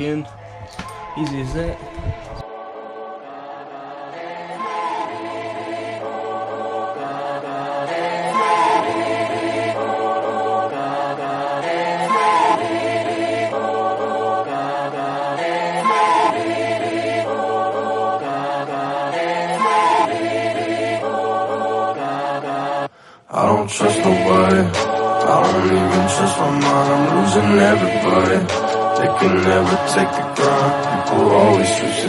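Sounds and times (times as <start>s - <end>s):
choir-like vocal pad: 0.0s - 32.0s.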